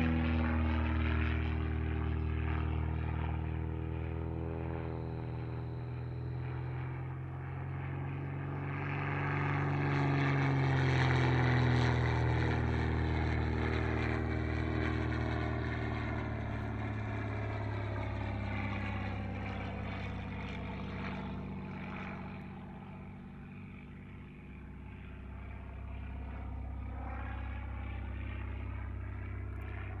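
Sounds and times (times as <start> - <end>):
propeller plane engine droning: 0.0 - 30.0.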